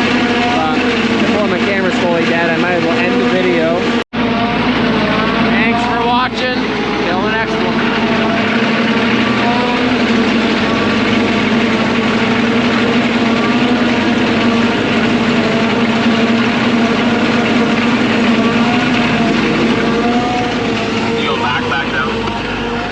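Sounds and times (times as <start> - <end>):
heavy vehicle engine running: 0.0 - 22.9.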